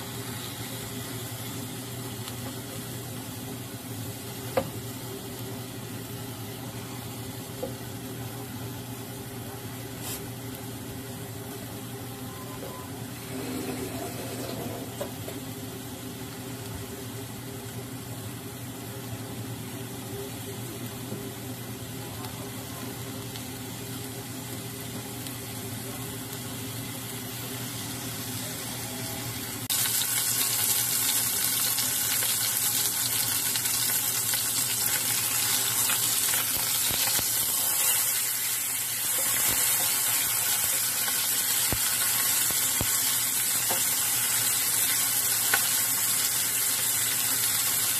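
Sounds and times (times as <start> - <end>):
meat sizzling in a frying pan: 0.0 - 8.0, 13.1 - 47.9.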